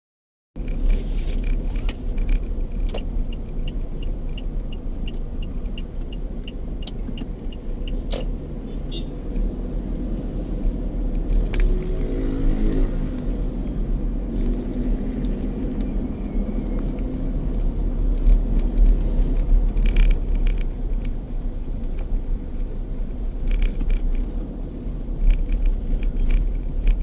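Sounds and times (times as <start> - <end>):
vehicle engine rumbling: 0.6 - 27.0.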